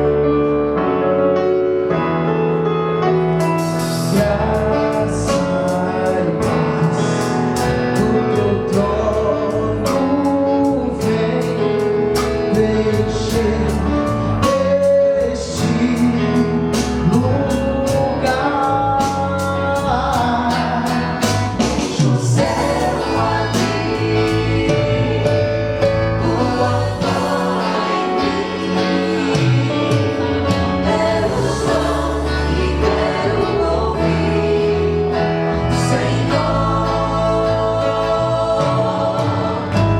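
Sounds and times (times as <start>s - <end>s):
instrumental backing with beat: 3.2s - 39.9s
vocal group singing gospel: 3.6s - 39.9s.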